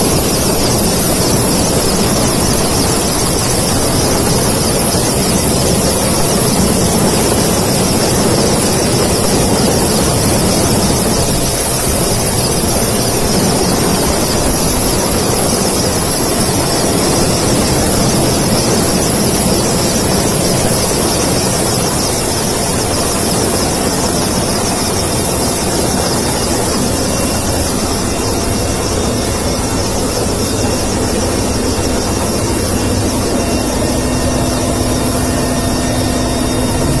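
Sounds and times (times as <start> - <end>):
helicopter engine and rotor: 0.0 - 37.0.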